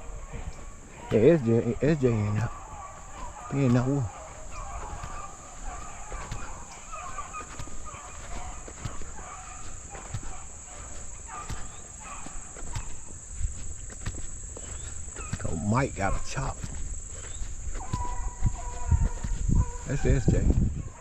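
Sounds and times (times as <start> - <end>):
hounds baying: 0.0 - 21.0.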